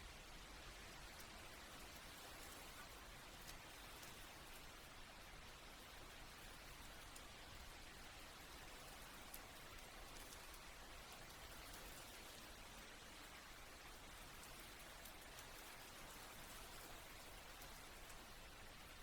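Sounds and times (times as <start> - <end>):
soft steady rain: 0.0 - 19.0.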